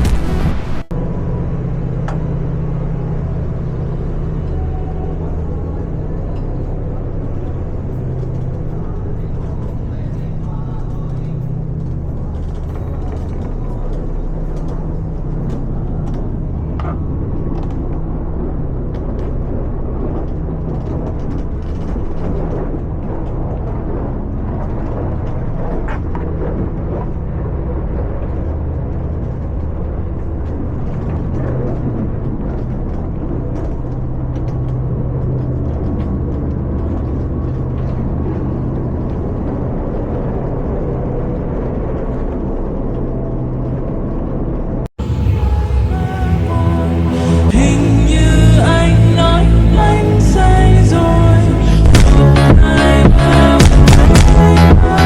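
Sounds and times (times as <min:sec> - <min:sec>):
yacht engines droning: 0:00.0 - 0:55.0.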